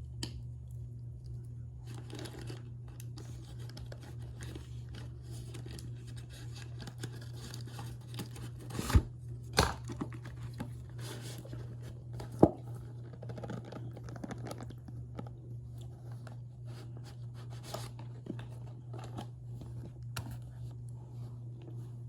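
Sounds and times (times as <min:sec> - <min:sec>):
steady low hum: 0:00.0 - 0:22.0
cornstarch crunching and crumbling: 0:00.1 - 0:22.0.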